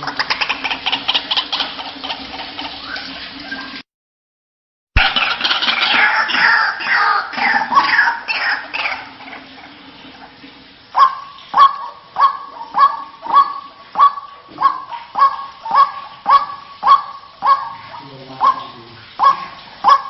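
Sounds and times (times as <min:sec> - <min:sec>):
waterhen calling: 0:00.0 - 0:03.8, 0:05.0 - 0:20.0.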